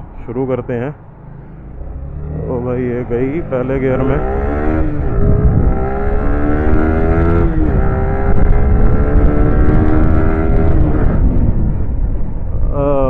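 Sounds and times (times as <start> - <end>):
motorcycle engine accelerating: 1.0 - 13.0.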